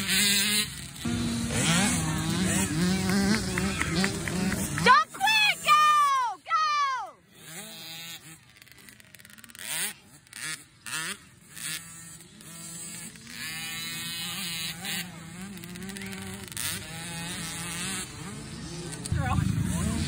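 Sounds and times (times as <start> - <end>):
dirt bike engine buzzing: 0.0 - 20.0.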